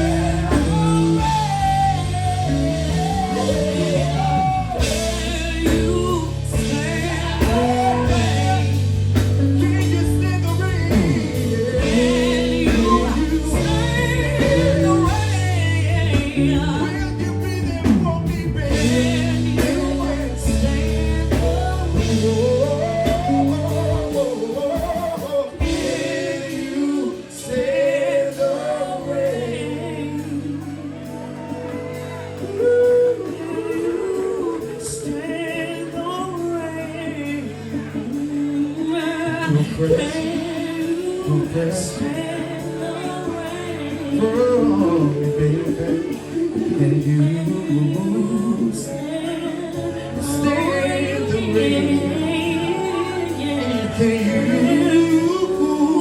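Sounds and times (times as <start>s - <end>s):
bass: 0.0s - 56.0s
drums: 0.0s - 56.0s
guitar: 0.0s - 56.0s
woman singing: 0.0s - 56.0s.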